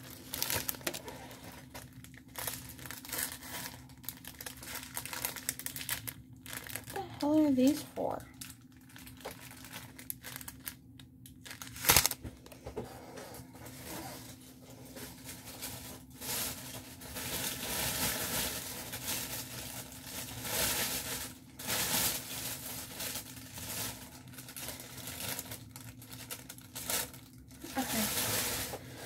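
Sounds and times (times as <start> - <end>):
plastic packaging crinkling: 0.0 - 12.6, 13.6 - 29.0.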